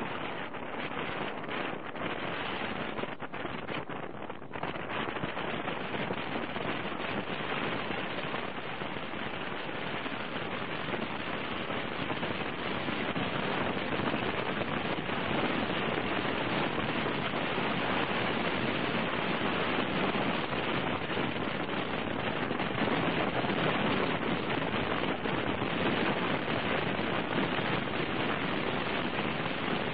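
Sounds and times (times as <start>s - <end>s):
wind and road noise: 0.0s - 29.9s.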